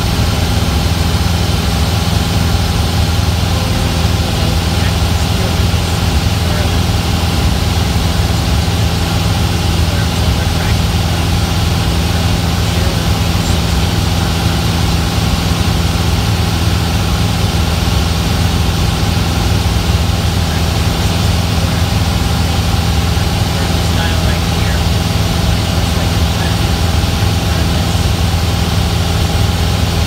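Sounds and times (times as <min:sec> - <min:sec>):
airplane engine and propeller: 0:00.0 - 0:30.0.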